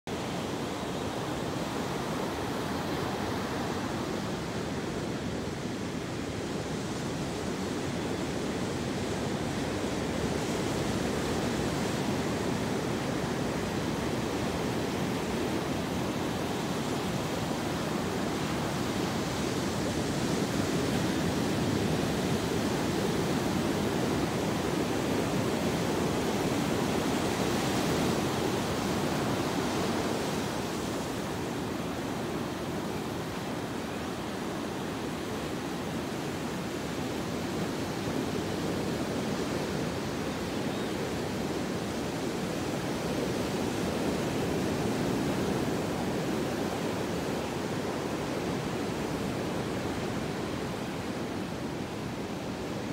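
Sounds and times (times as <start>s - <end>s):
ocean surf breaking on shore: 0.2s - 52.9s.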